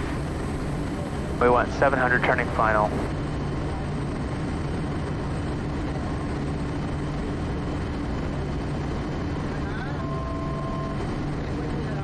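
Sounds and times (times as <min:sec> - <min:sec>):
turboprop engine in flight: 0:00.0 - 0:12.0.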